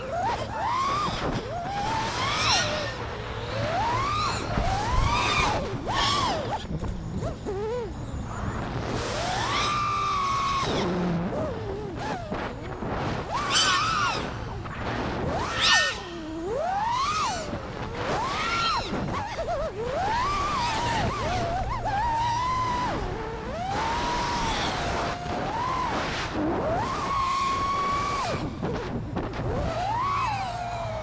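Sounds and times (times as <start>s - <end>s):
drone motors whining: 0.0s - 31.0s
wind rumble on microphone: 0.0s - 31.0s.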